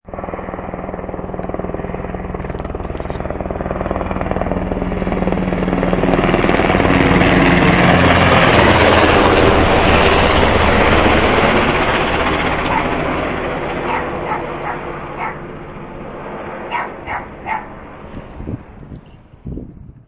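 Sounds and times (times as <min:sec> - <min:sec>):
helicopter flying overhead: 0:00.0 - 0:20.0.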